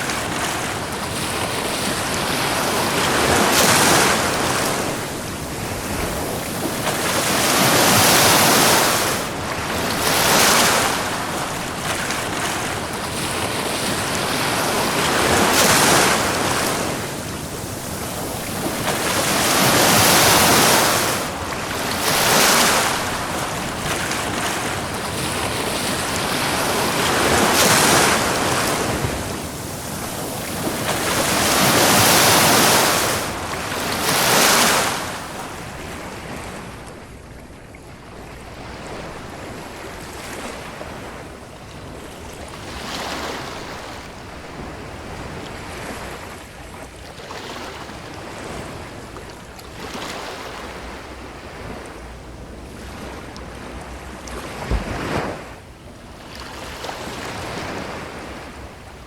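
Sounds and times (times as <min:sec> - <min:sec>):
ocean waves washing onto beach: 0:00.0 - 0:59.0.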